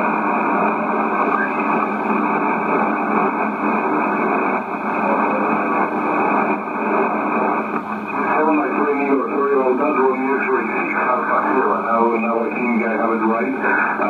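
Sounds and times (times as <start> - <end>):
radio static: 0.0 - 14.0.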